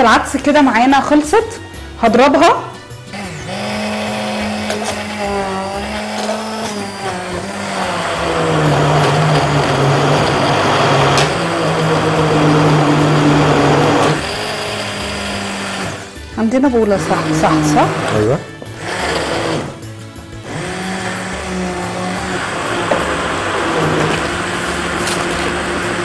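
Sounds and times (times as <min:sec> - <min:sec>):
immersion blender motor hum: 0:02.9 - 0:26.0.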